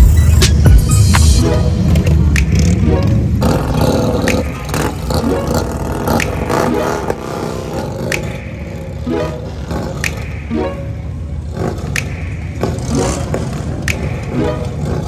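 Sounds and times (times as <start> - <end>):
motorcycle engines revving: 0.0 - 15.0
music: 0.0 - 15.0.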